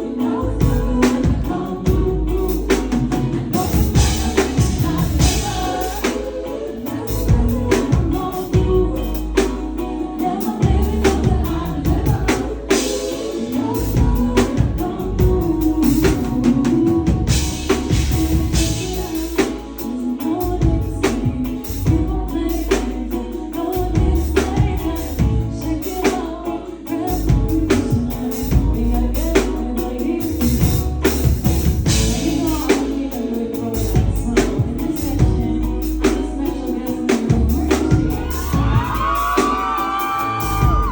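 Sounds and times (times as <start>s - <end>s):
backing track with heavy bass: 0.0s - 40.9s
woman singing: 0.0s - 40.9s.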